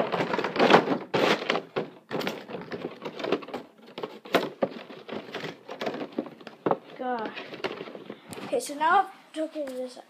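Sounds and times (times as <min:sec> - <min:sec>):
toy packaging crinkling and clicking: 0:00.0 - 0:08.5.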